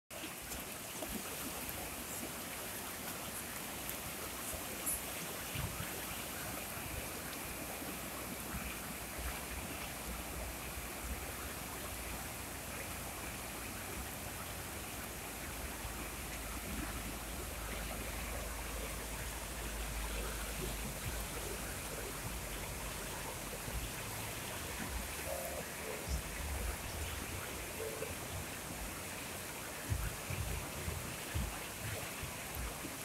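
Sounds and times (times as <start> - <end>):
river rushing: 0.2 - 33.0.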